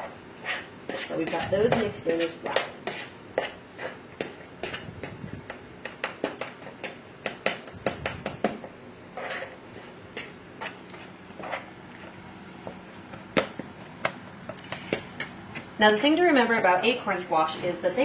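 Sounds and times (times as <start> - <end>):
hands mixing sticky stuffing: 0.0 - 16.1.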